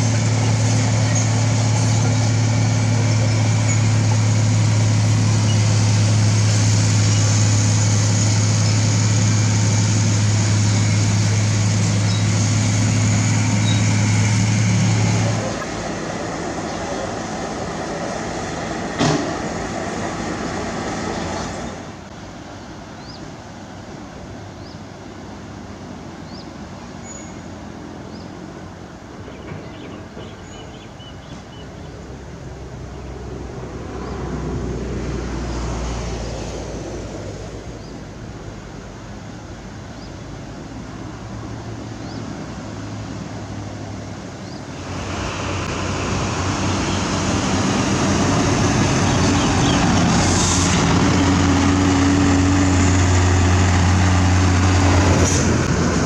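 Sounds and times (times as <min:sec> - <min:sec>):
earthmoving machinery diesel engines: 0:00.0 - 0:56.0.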